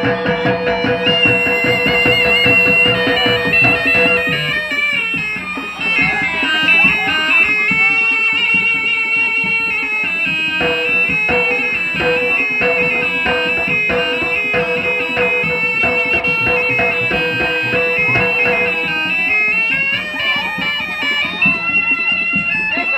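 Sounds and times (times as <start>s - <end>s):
busy drumming: 0.0s - 22.9s
shrill reed pipe melody: 0.0s - 22.9s.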